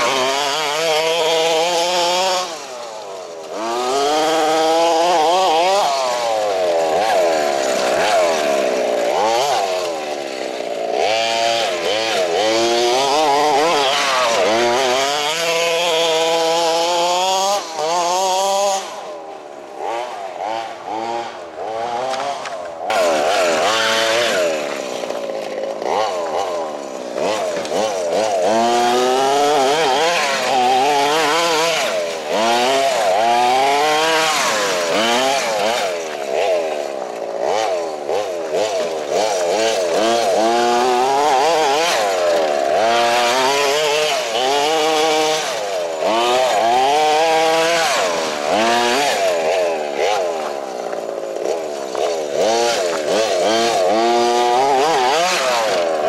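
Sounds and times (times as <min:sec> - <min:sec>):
small nitro engine revving: 0:00.0 - 0:56.0.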